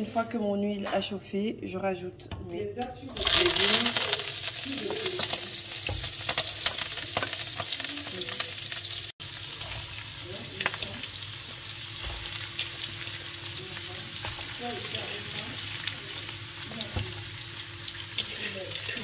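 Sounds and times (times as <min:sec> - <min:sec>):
vegetables sizzling in oil: 0:02.8 - 0:19.0.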